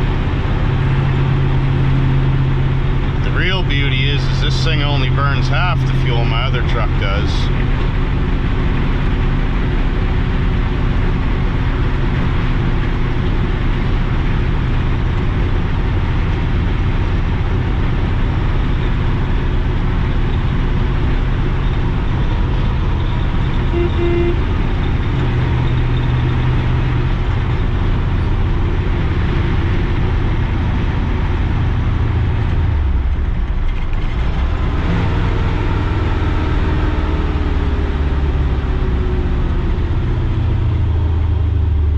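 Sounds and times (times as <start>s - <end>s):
truck engine running under load: 0.0s - 41.9s
tyre and road noise: 0.0s - 41.9s.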